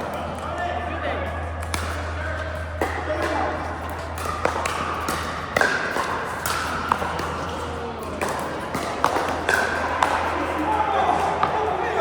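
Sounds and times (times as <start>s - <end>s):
court background noise: 0.0s - 12.0s
paddles striking ball: 1.6s - 12.0s.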